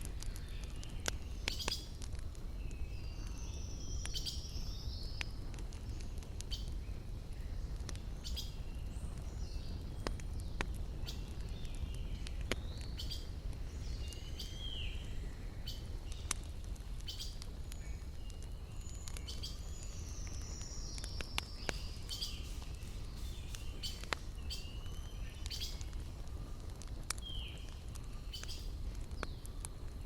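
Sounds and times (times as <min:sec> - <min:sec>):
small birds chirping: 0:00.0 - 0:30.0
wood fire crackling and popping: 0:00.0 - 0:30.0.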